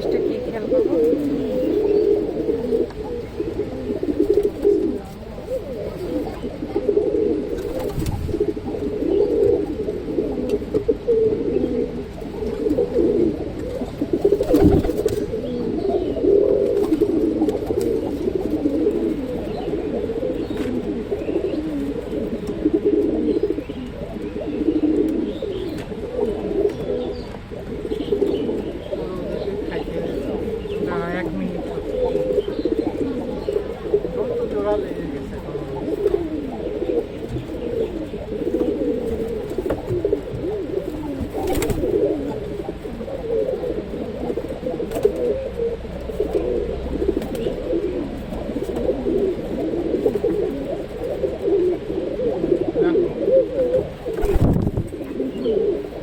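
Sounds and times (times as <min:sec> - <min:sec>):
pigeons cooing: 0:00.0 - 0:56.0.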